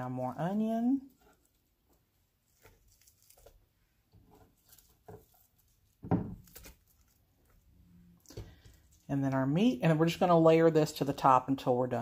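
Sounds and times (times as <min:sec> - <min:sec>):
onion rustling: 0:00.0 - 0:10.5.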